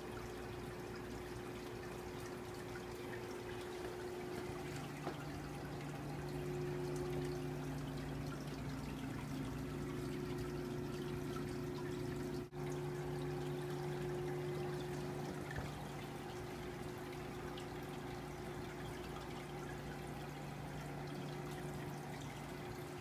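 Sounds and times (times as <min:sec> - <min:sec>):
low motor hum: 0:00.0 - 0:23.0
water trickling into tank: 0:00.0 - 0:23.0.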